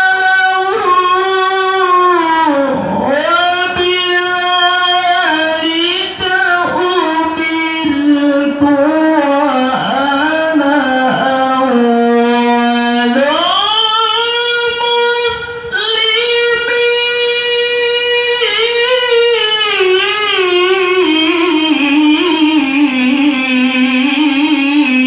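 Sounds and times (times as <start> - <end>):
man chanting melodic recitation: 0.0 - 25.0.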